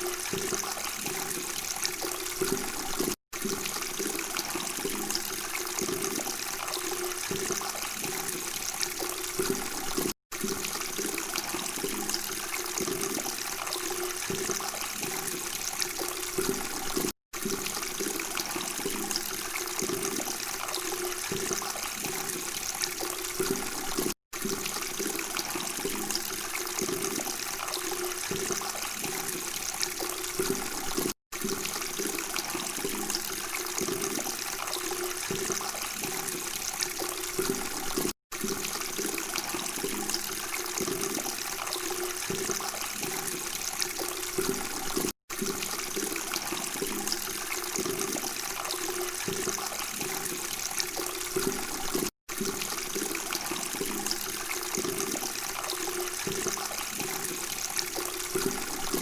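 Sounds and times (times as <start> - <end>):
water flowing and gurgling: 0.0 - 59.0.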